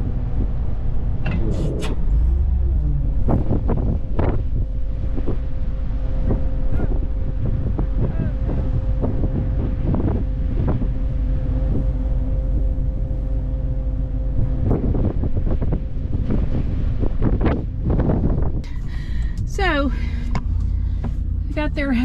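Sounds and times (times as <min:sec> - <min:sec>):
truck engine idling: 0:00.0 - 0:22.0
wind buffeting microphone: 0:00.0 - 0:22.0.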